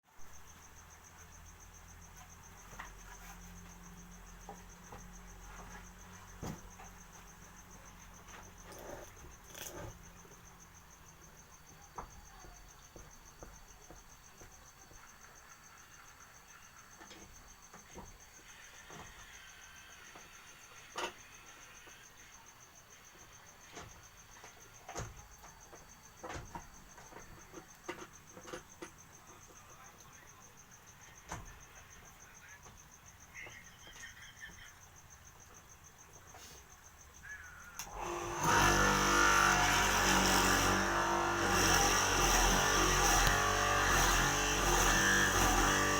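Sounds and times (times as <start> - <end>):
cricket chirping: 0.1 - 45.9.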